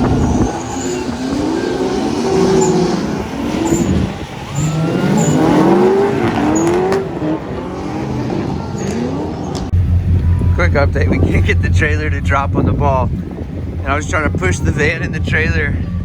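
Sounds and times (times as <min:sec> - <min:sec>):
car engines revving: 0:00.0 - 0:16.0
tires squealing: 0:00.0 - 0:16.0.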